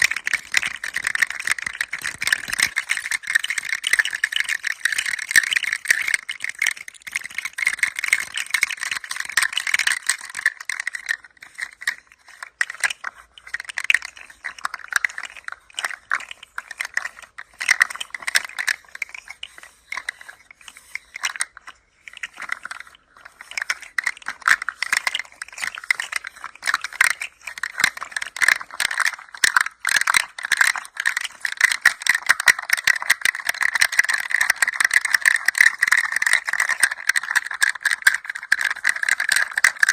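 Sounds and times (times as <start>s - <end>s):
toy rattling: 0.0s - 39.9s.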